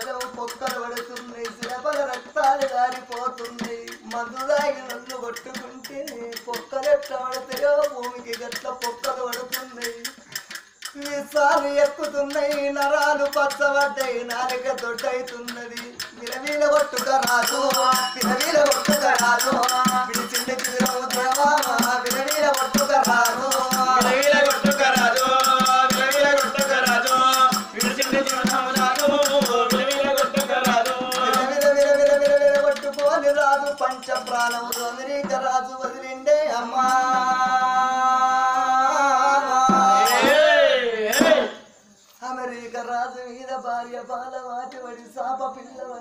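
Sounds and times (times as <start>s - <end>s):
hand-drum and jingling percussion: 0.0s - 38.0s, 38.8s - 41.6s
man singing folk song: 0.0s - 40.4s.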